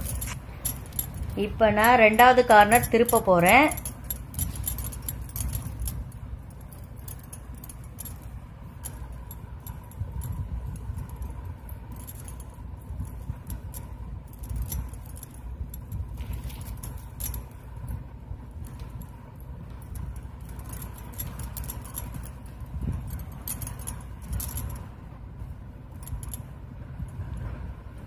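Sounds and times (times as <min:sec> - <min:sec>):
plastic wire rustling and clicking: 0:00.0 - 0:24.9
low steady rumble: 0:00.0 - 0:28.0.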